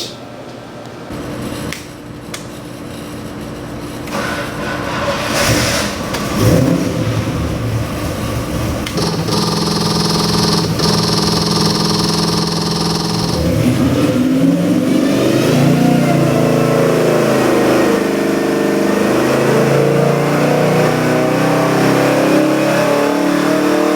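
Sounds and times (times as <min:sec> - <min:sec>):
car engine starting and running: 0:04.1 - 0:23.9.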